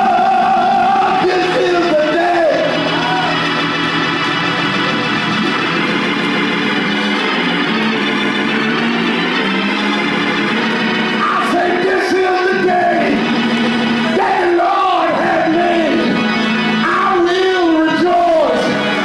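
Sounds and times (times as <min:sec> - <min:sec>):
organ playing sustained chords: 0:00.0 - 0:19.0.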